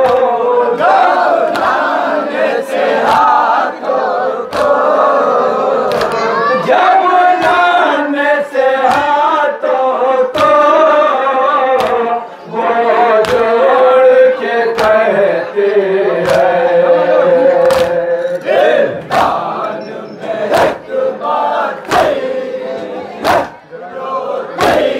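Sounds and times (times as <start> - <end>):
crowd chest-beating: 0.0 - 24.9
men chanting in unison: 0.0 - 24.9.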